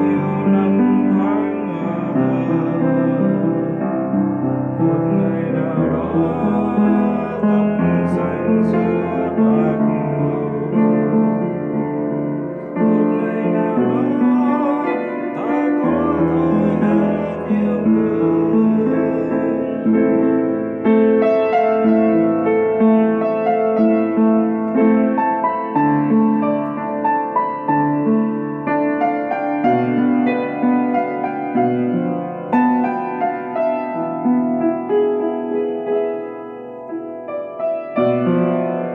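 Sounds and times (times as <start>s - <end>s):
solo piano: 0.0s - 38.9s.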